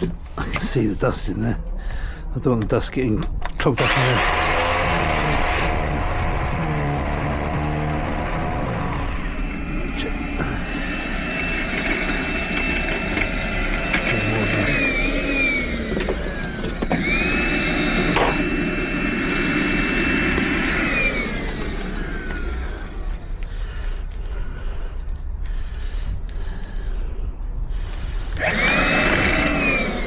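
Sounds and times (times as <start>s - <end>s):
small electric motor whining: 3.7s - 25.9s, 27.6s - 30.0s.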